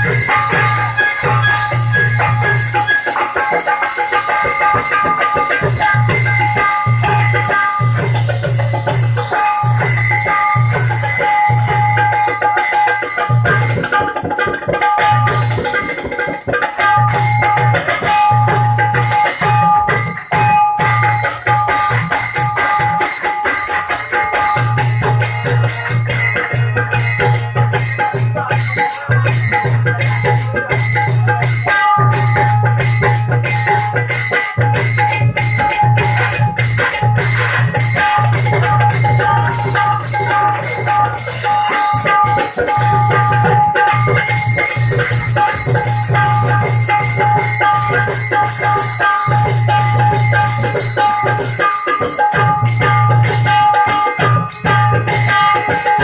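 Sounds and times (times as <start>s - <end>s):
hand drum beat: 0.0s - 56.0s
instruments playing held notes: 0.0s - 56.0s.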